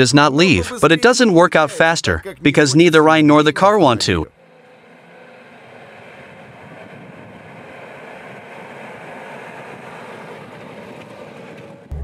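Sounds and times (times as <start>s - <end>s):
car engine approaching: 2.4s - 12.0s.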